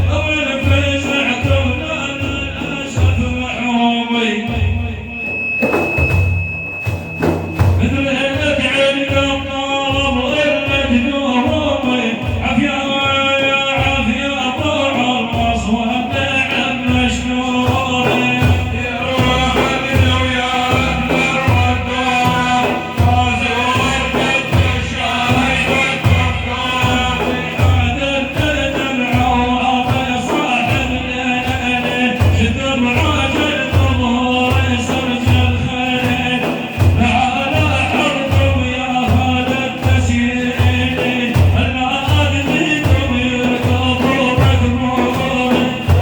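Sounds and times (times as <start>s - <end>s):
man singing: 0.0s - 6.2s, 7.1s - 46.0s
steady drum beat: 0.0s - 46.0s.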